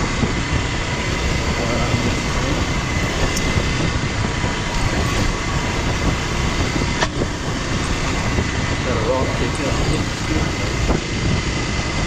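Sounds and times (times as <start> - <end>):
motorcycle engine rumble: 0.0 - 12.0
wind rush: 0.0 - 12.0.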